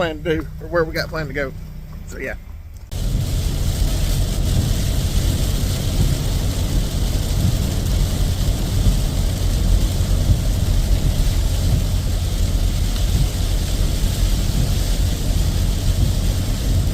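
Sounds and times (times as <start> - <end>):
rain and tyre spray hiss: 0.0 - 16.9
vehicle driving on wet road: 0.0 - 16.9.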